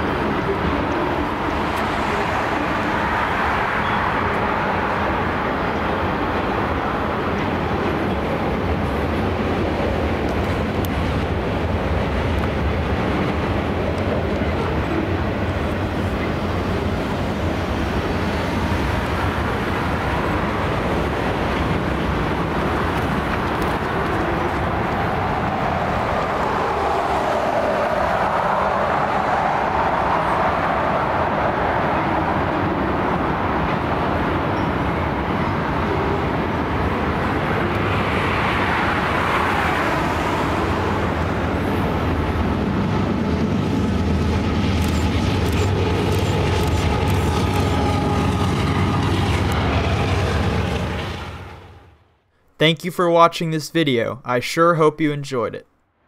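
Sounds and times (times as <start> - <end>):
train wheels on rail: 0.0 - 52.6.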